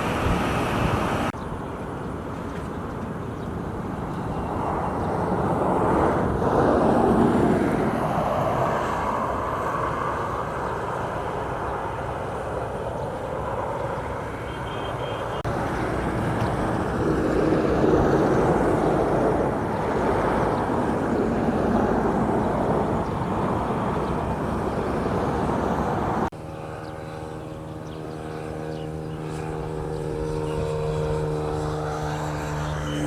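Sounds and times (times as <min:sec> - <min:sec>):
engine running with rushing noise: 0:00.0 - 0:33.0
steady engine hum: 0:00.0 - 0:33.0.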